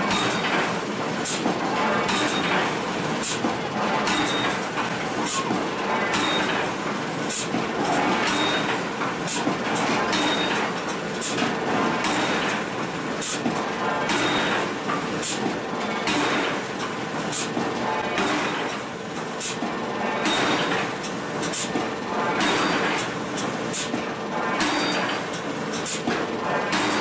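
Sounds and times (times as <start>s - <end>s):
clattering forge machinery: 0.0s - 27.0s.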